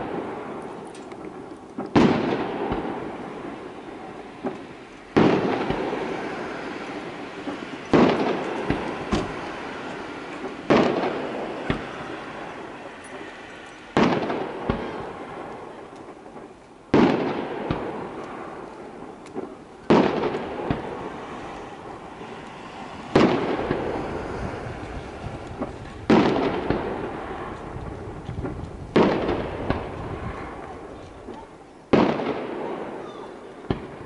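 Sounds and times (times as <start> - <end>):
firework shells booming: 0.0 - 34.0
smaller firework cracks: 0.0 - 34.0.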